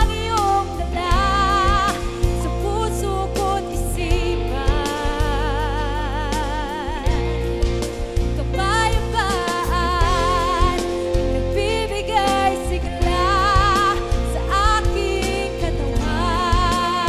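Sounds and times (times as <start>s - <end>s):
live band playing: 0.0s - 17.0s
woman singing a slow ballad: 0.0s - 17.0s.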